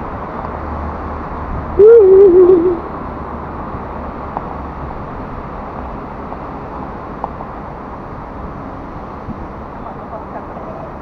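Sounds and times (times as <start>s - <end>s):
station concourse rumble and hiss: 0.0s - 11.0s.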